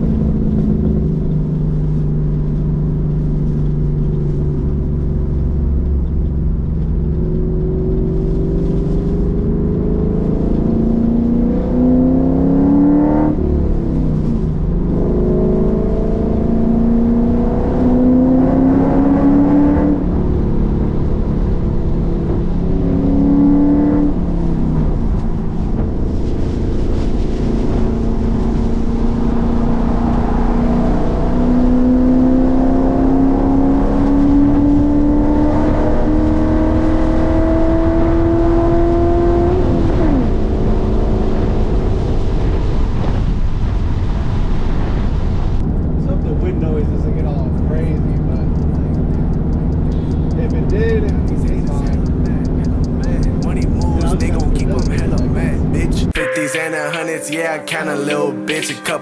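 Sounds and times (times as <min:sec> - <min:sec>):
car engine accelerating: 0:00.0 - 0:56.2.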